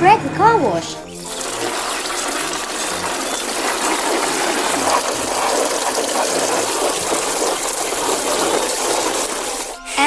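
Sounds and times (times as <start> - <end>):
water spraying from toy shower: 0.7 - 10.0.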